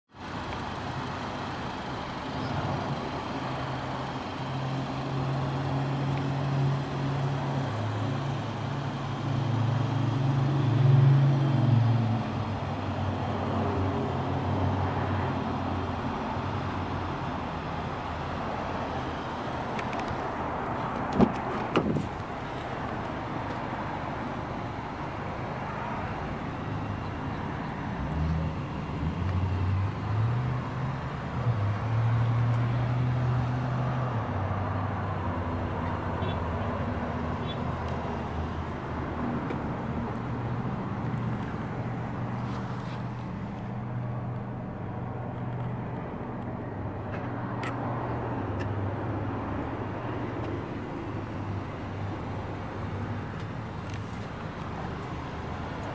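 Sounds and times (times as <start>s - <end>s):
passing vehicles: 0.1s - 55.9s
low engine hum: 0.2s - 55.9s.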